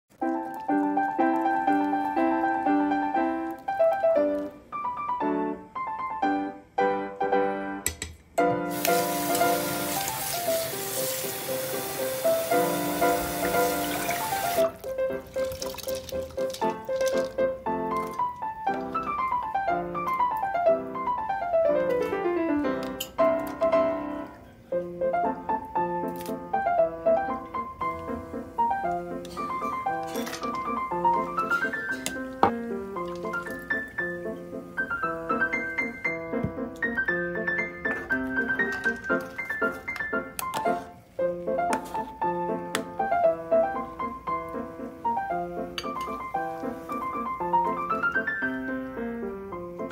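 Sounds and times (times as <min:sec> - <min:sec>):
gentle piano music: 0:00.1 - 0:49.9.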